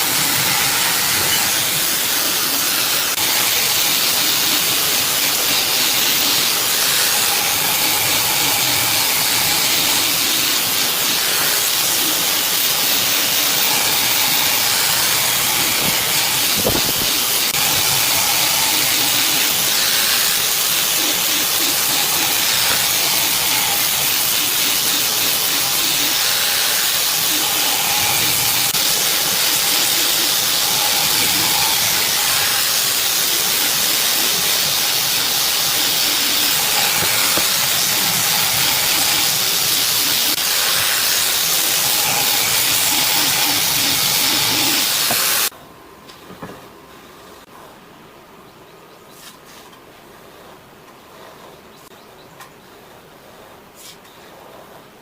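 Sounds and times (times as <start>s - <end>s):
loud steady hissing: 0.0s - 45.6s
faint outdoor background: 0.0s - 55.0s.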